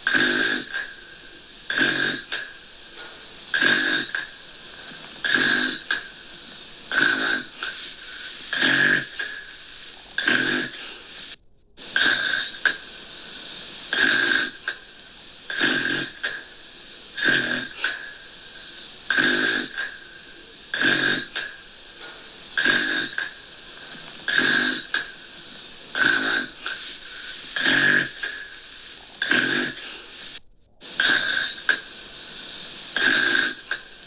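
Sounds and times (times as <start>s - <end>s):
faint hiss: 0.0s - 34.0s
gentle snoring: 0.0s - 34.0s.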